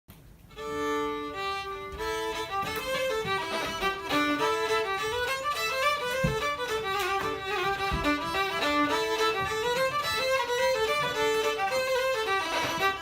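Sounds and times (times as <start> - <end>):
fiddle playing a reel: 0.5 - 13.0.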